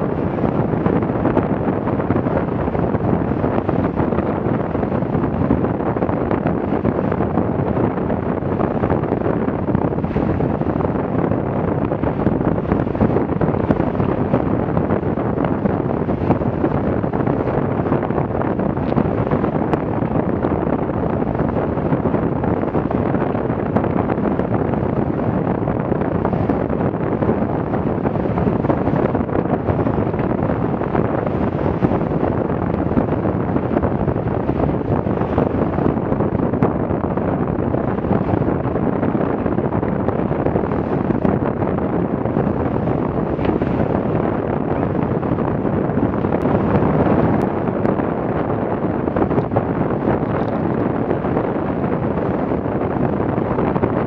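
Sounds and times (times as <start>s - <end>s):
rushing water: 0.0s - 53.9s
wind buffeting microphone: 0.0s - 54.0s.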